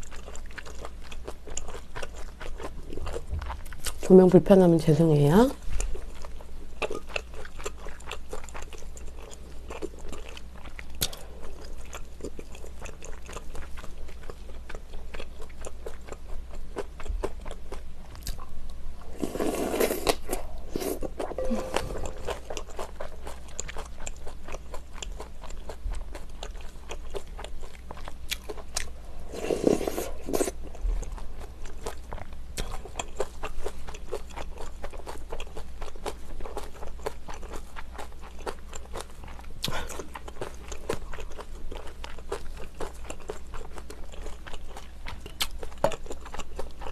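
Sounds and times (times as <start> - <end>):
wet chewing and crunching: 0.0 - 4.1, 5.6 - 21.4, 22.1 - 46.9.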